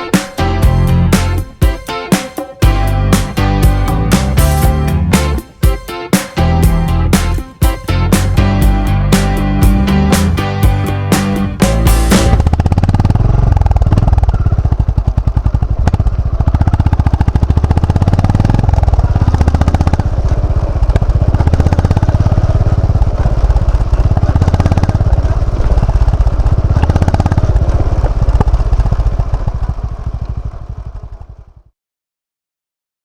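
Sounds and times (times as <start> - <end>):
motorcycle engine thumping: 0.0 - 31.7.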